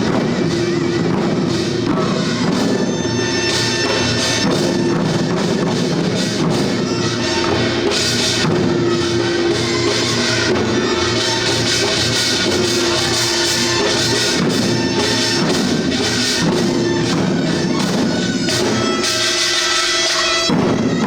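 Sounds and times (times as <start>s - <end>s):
held melodic tone: 0.0s - 20.7s
barrel drums beating rhythm: 0.0s - 21.0s.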